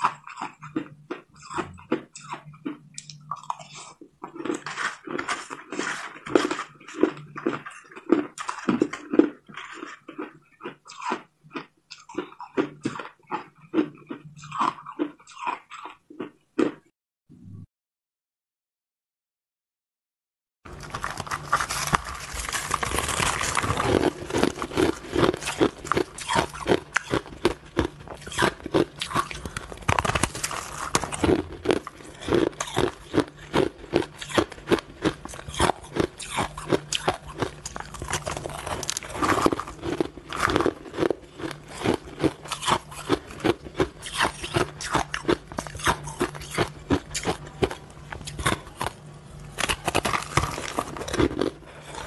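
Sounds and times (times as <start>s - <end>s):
ice being chewed: 0.0s - 16.8s, 20.7s - 52.0s.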